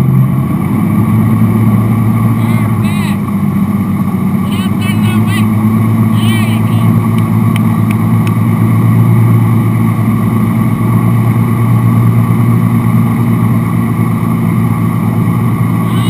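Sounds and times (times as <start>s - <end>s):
boat engine droning: 0.0s - 16.0s
churning wake rushing: 0.1s - 16.0s.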